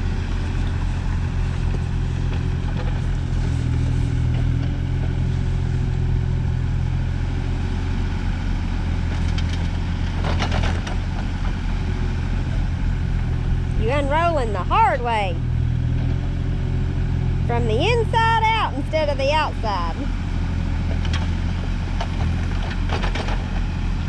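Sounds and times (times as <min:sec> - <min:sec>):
tractor engine droning: 0:00.0 - 0:24.0.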